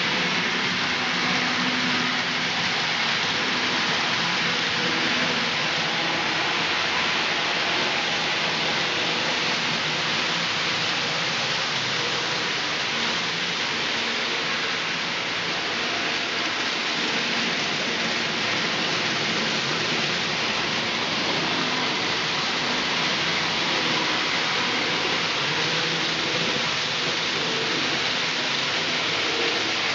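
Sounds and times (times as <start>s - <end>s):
model train wheels rolling on rail: 0.0s - 29.9s.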